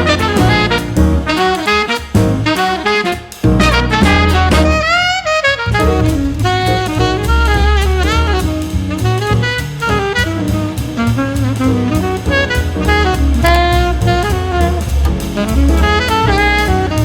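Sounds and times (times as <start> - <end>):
bass: 0.0 - 17.0
drum kit: 0.0 - 17.0
jazz saxophone lead: 0.0 - 17.0.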